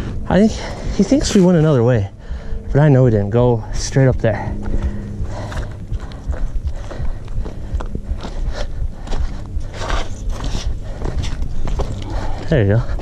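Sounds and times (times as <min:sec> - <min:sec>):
low microphone rumble: 0:00.0 - 0:13.0.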